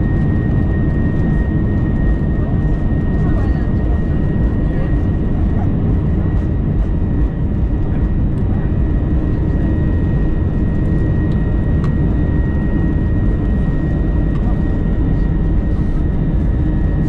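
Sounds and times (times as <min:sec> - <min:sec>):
jet engines roaring in cabin: 0:00.0 - 0:17.0.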